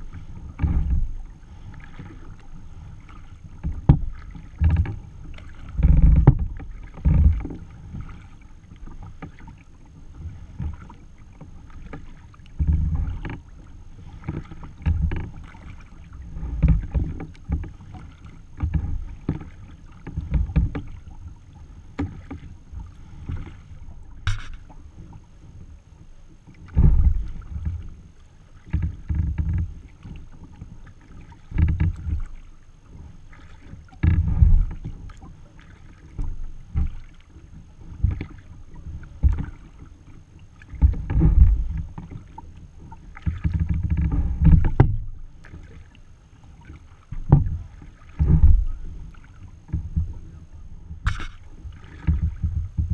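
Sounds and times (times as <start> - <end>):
water splashing against kayak hull: 0.0 - 52.9.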